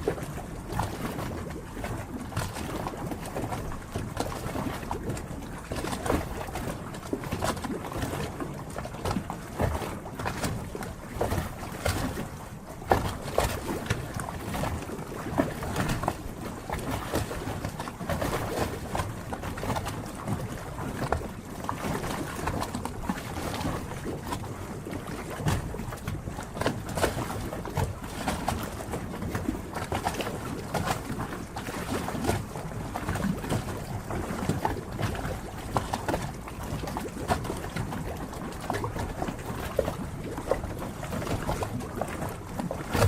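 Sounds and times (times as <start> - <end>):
small splashes and knocks: 0.0 - 43.0
water lapping and slapping: 0.0 - 43.0.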